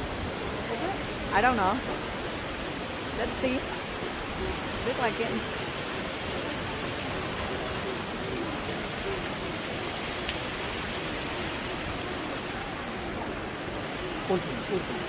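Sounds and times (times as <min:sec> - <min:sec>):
fountain water splashing: 0:00.0 - 0:15.0
rain falling: 0:00.0 - 0:15.0.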